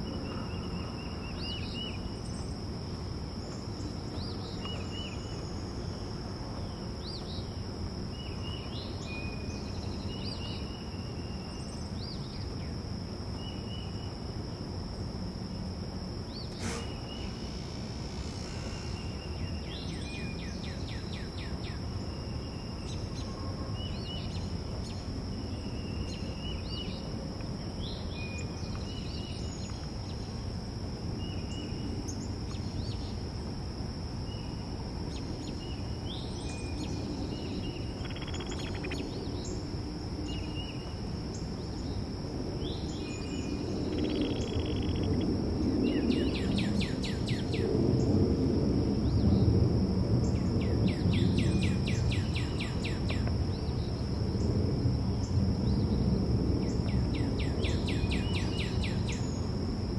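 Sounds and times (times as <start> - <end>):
steady high-pitched whine: 0.0 - 59.9.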